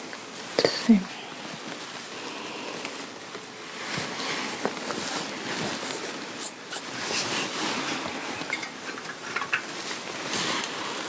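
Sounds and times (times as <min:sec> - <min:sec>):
fabric rustling and rubbing: 0:00.0 - 0:11.0.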